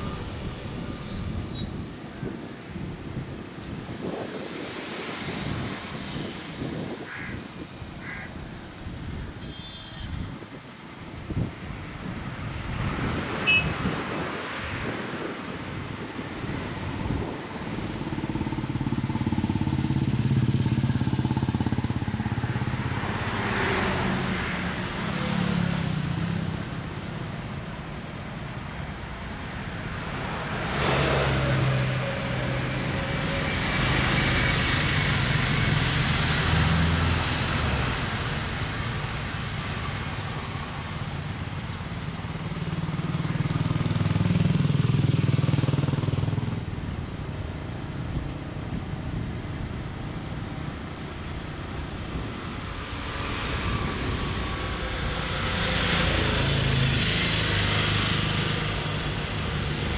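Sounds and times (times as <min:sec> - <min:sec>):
passing motor vehicles: 0:00.0 - 0:59.9.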